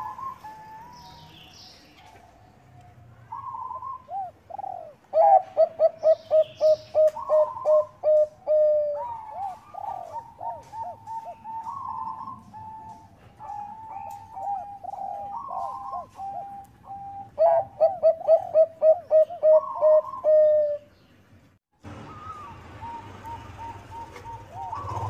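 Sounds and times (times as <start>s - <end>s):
doves cooing: 0.0s - 20.9s, 21.9s - 25.0s.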